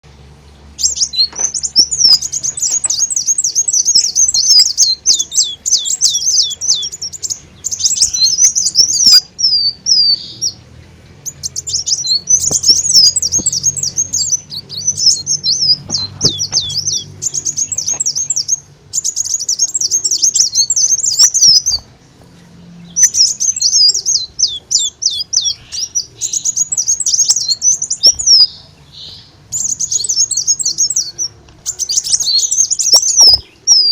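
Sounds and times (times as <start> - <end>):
sunbird twittering: 0.4 - 33.9.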